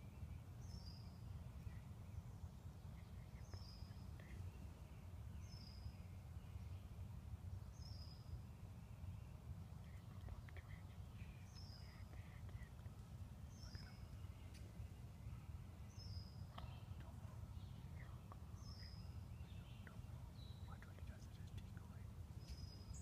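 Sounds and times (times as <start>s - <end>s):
low background rumble: 0.0s - 23.0s
songbirds singing: 0.0s - 23.0s.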